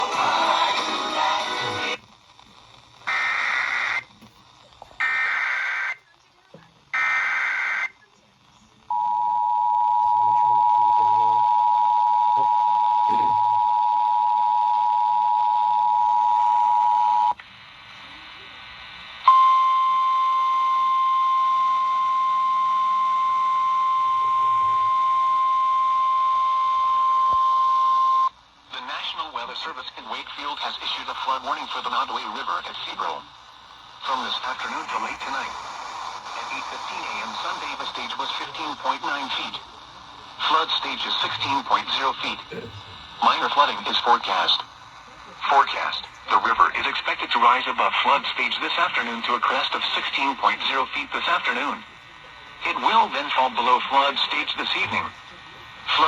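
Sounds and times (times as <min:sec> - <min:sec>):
radio music: 0:00.0 - 0:56.0.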